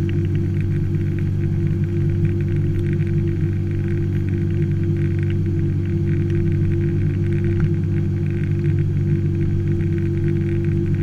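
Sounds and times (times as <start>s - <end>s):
boat motor droning: 0.0s - 11.0s.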